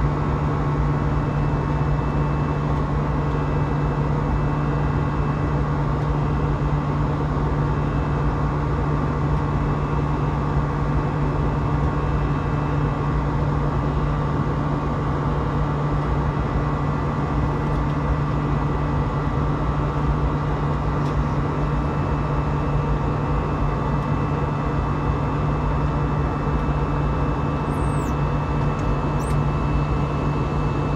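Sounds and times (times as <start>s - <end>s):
jet cabin drone: 0.0s - 30.9s.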